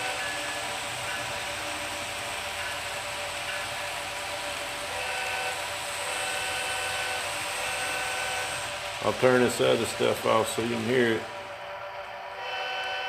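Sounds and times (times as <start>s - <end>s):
model train motors whirring: 0.0s - 13.0s.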